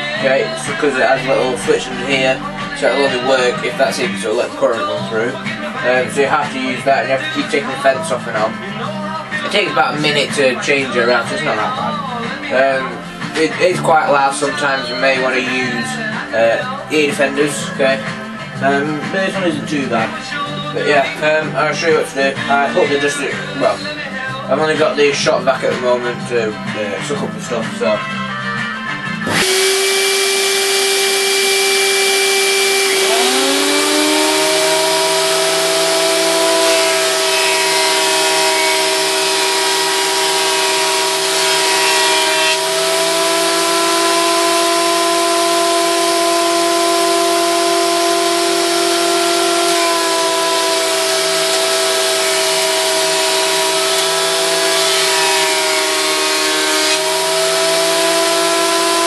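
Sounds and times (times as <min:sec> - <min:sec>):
planer thicknesser running: 0:00.0 - 0:26.1, 0:29.2 - 0:59.0
shop vacuum running: 0:00.0 - 0:59.0.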